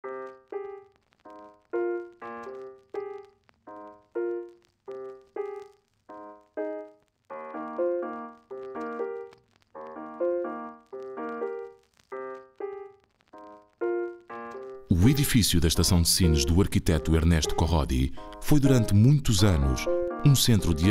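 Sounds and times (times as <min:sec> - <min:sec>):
slow keyboard melody: 0:00.0 - 0:20.9.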